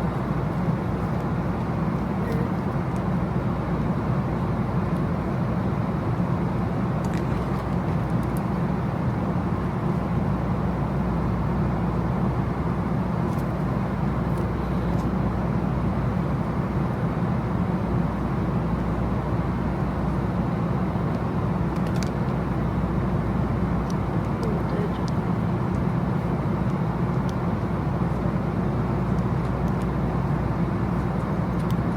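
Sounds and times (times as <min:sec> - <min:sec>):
vehicle interior rumble: 0:00.0 - 0:31.9.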